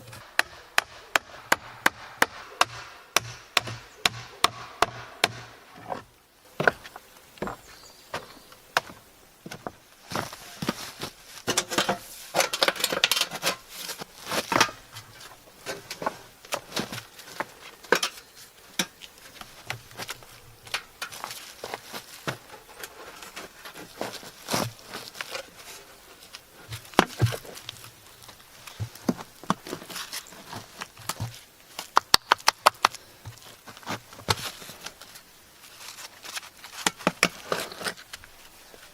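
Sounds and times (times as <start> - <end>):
scraping and rustling: 5.7 - 32.0, 32.8 - 38.9.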